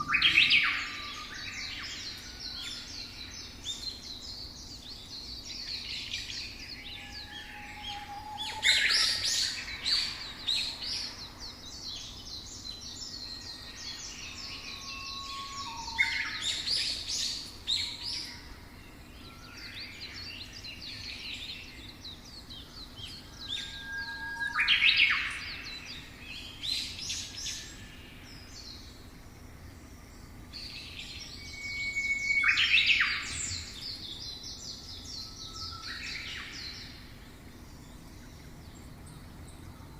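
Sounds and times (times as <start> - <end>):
faint steady background hiss: 0.0 - 39.9
songbirds singing and chirping: 0.0 - 39.9.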